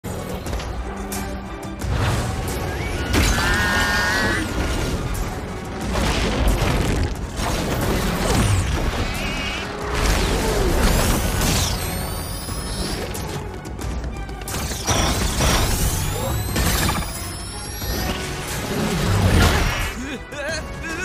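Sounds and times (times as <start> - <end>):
dramatic cartoon music: 0.0 - 21.0.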